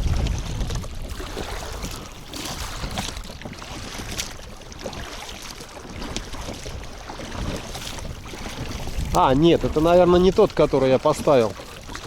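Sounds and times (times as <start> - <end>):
water splashing around boat: 0.0 - 12.0
wind buffeting microphone: 0.0 - 12.0.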